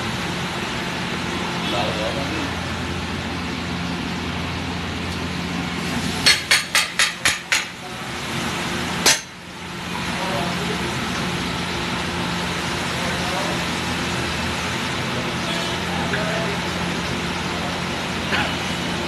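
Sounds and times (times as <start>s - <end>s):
food stall din: 0.0s - 19.0s.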